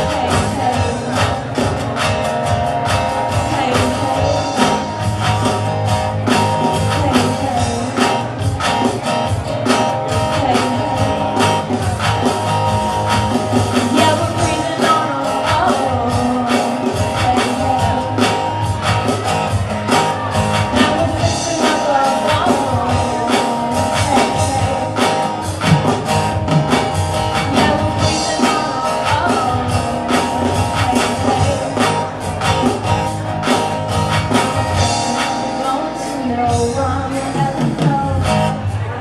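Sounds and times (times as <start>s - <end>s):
woman singing: 0.0s - 1.8s, 2.9s - 5.7s, 6.3s - 11.9s, 13.6s - 19.2s, 19.9s - 25.7s, 27.4s - 32.7s, 34.3s - 39.0s
acoustic guitar strumming: 0.0s - 39.0s.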